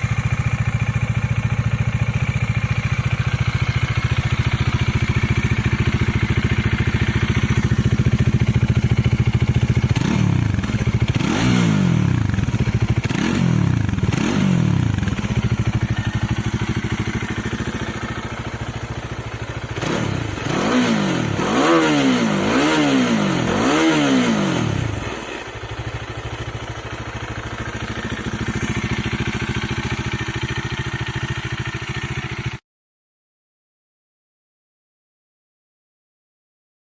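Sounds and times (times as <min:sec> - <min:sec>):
motorcycle engine idling and revving: 0:00.0 - 0:32.6.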